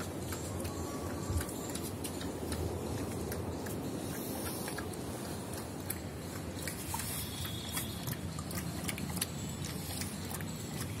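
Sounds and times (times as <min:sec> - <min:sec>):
dog lapping milk: 0:00.0 - 0:11.0
low background rumble: 0:00.0 - 0:11.0.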